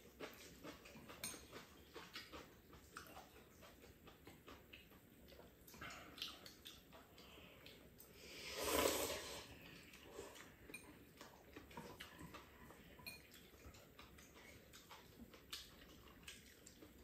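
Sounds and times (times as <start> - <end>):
people eating noodles: 0.0 - 17.0.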